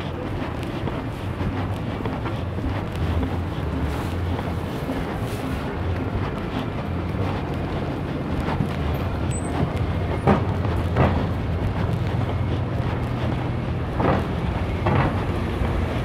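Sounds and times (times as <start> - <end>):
traffic engine hum: 0.0 - 16.0.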